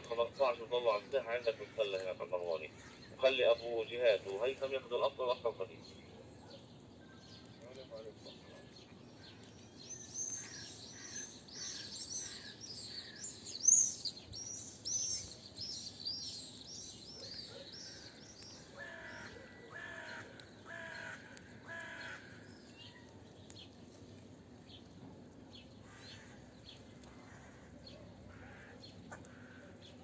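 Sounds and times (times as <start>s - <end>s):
lower harsher bird calls: 0.0s - 23.7s, 25.5s - 30.0s
small birds chirping: 0.0s - 30.0s.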